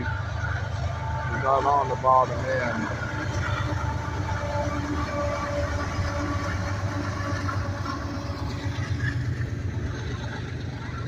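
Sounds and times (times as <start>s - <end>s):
diesel locomotive engine drone: 0.0s - 11.0s
train cars rumbling past: 0.0s - 11.0s.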